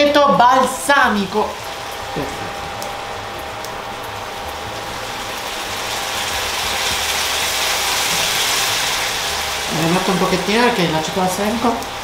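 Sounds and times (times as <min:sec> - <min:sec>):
rice sizzling in frying pan: 0:00.0 - 0:12.0.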